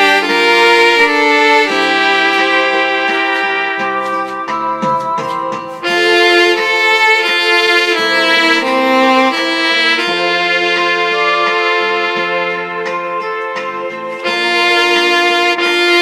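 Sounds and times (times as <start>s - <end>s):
digital wind instrument duet: 0.0s - 16.0s.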